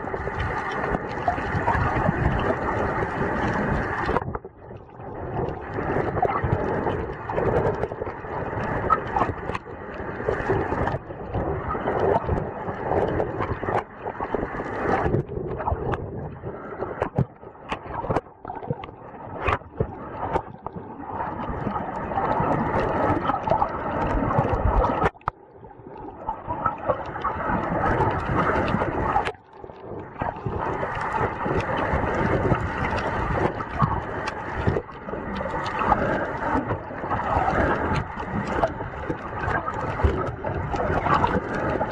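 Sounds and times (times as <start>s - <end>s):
muffled water sloshing underwater: 0.0s - 41.9s.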